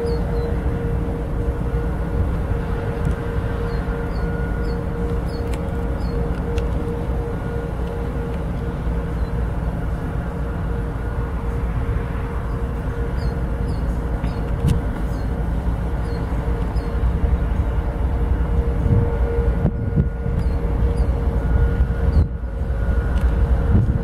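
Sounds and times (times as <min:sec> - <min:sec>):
diesel locomotive engine rumble: 0:00.0 - 0:24.0
steady hum: 0:00.0 - 0:24.0.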